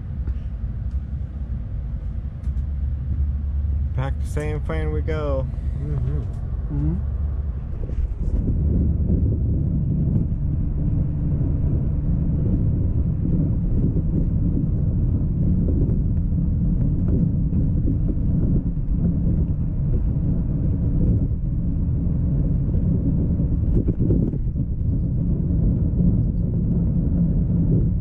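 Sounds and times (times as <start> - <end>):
bus engine and tyres rumbling: 0.0 - 28.0.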